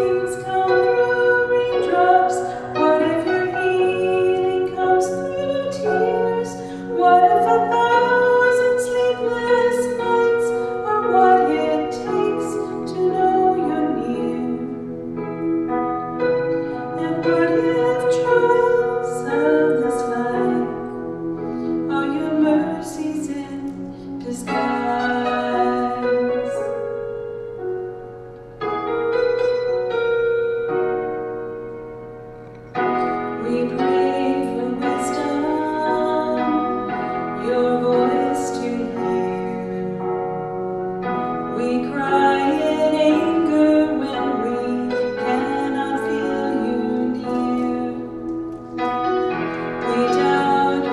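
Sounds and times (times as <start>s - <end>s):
woman singing slow melody: 0.0s - 15.5s, 16.8s - 27.0s, 33.3s - 40.5s, 41.4s - 48.8s, 49.7s - 50.9s
piano accompaniment: 0.0s - 50.9s.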